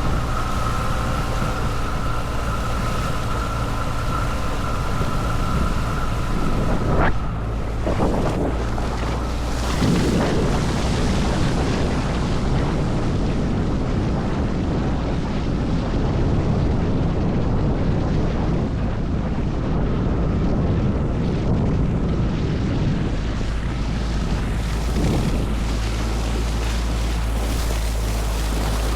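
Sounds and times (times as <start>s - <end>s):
rushing water: 0.0s - 20.4s, 22.2s - 28.9s
outboard motor running: 0.0s - 28.9s
wind on microphone: 0.0s - 28.9s.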